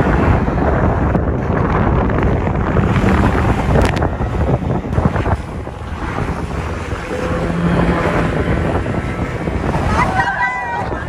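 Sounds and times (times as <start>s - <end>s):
outboard motor running: 0.0s - 11.0s
rushing water and spray: 0.0s - 11.0s
wind buffeting microphone: 0.0s - 11.0s.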